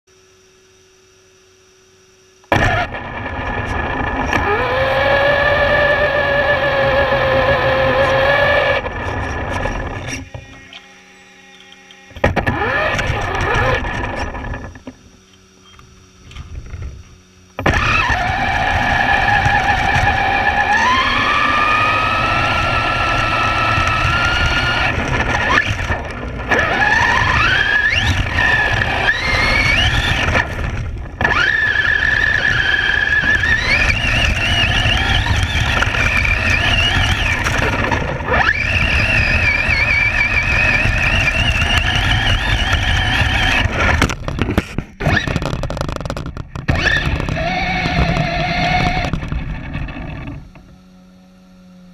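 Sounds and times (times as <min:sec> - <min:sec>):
electric motor whine: 0:00.1 - 0:51.9.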